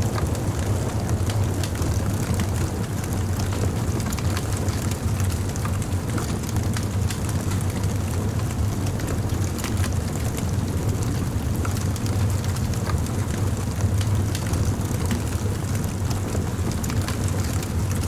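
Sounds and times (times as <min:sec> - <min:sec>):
low rumble of flames: 0:00.0 - 0:18.0
wood crackling and popping: 0:00.0 - 0:18.0.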